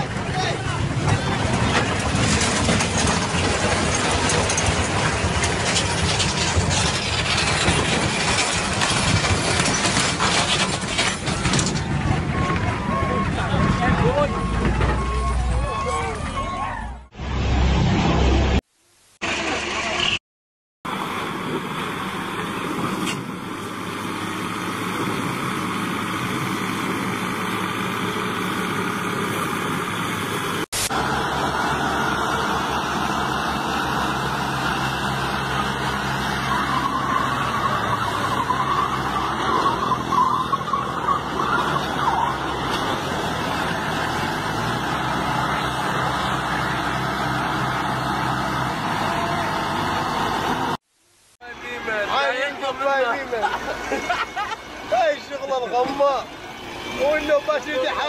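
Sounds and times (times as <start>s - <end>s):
tractor engines under load: 0.0s - 17.4s, 19.2s - 20.2s, 20.9s - 50.9s, 51.5s - 58.0s
dump truck engines running: 0.0s - 17.7s, 20.9s - 50.8s, 51.5s - 58.0s.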